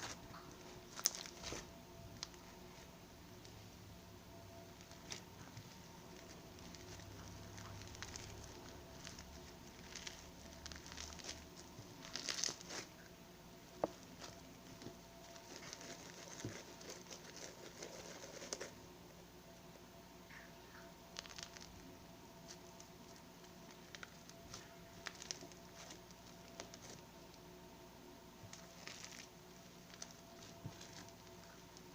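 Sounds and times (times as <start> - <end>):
slime squishing by hand: 0.0 - 18.8, 20.3 - 27.4, 28.4 - 31.9.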